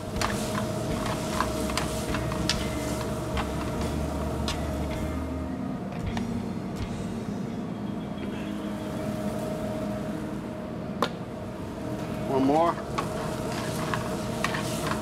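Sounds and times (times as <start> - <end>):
gas burners humming: 0.0 - 15.0.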